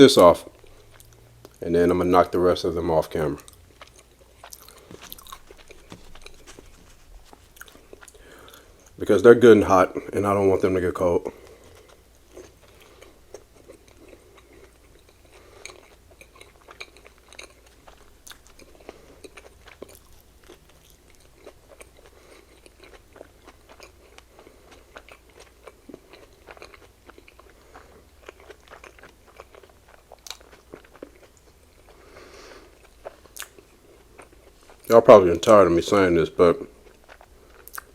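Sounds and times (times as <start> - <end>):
wet chewing mouth sounds: 0.5 - 1.6, 3.2 - 9.0, 11.3 - 34.9, 36.7 - 37.9.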